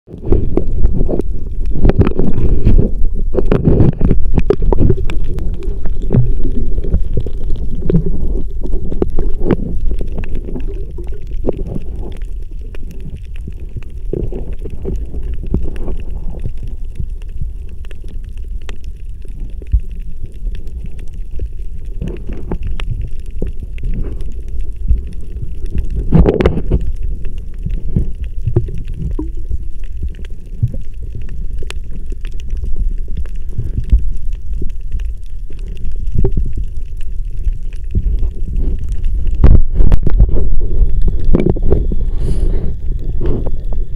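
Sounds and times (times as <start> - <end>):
small underwater clicks and knocks: 0.1 - 43.9
underwater rumble and sloshing: 0.1 - 43.9.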